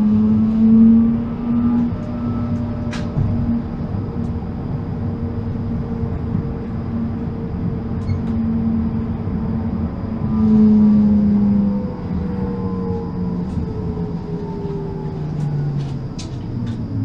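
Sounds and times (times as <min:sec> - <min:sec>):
electric tram motor hum: 0:00.0 - 0:17.0
wheel-on-rail rumble: 0:00.0 - 0:17.0.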